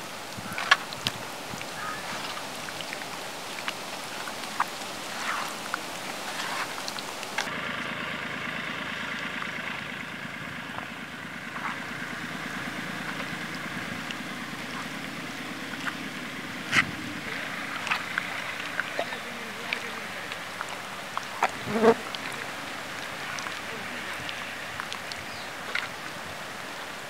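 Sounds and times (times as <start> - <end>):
wet squelching of raw meat: 0.4 - 7.5, 11.5 - 27.0.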